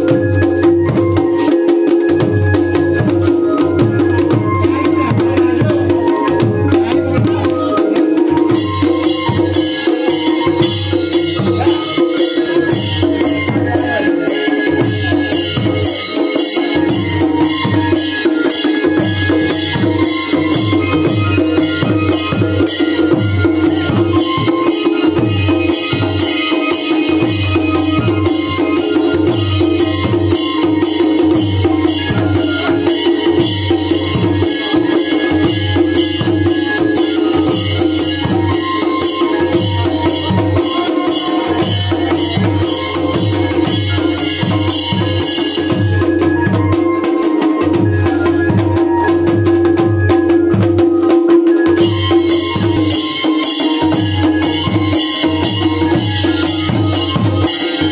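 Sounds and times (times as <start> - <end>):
dhol drums beating: 0.0 - 57.9.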